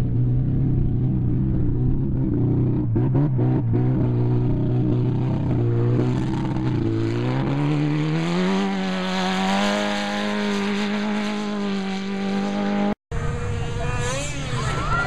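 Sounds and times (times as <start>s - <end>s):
engine accelerating: 0.0s - 15.0s.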